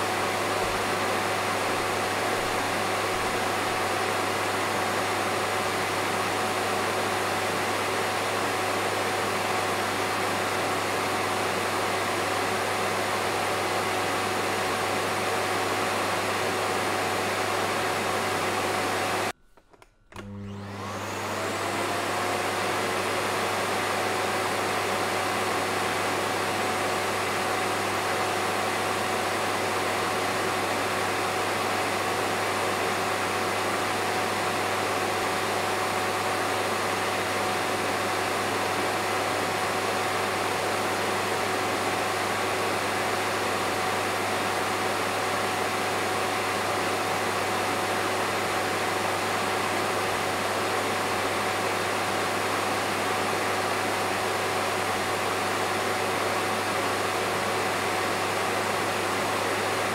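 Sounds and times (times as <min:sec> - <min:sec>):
vacuum cleaner motor running: 0:00.0 - 0:59.9.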